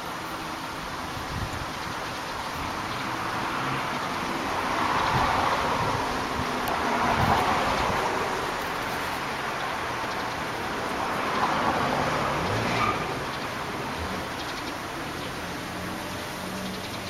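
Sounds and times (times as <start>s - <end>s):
road traffic rush: 0.0s - 17.0s.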